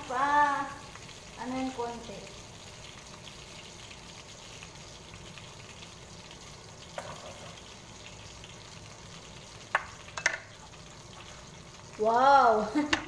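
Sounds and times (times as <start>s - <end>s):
butter sizzling in a frying pan: 0.0s - 13.0s.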